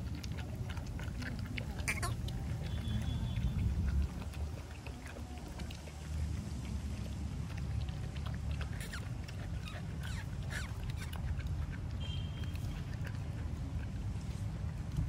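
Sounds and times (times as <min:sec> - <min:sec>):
puppies lapping milk: 0:00.0 - 0:15.0.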